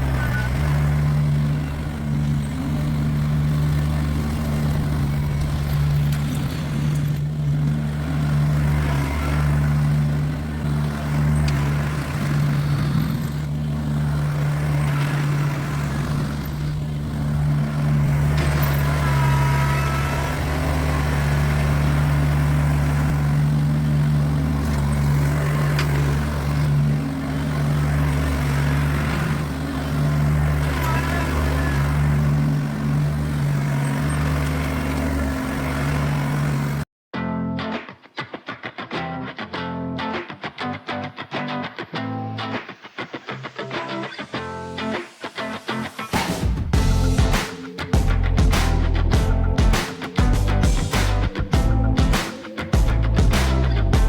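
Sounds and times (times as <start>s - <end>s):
tractor diesel engine running: 0.0s - 36.9s, 46.0s - 54.0s.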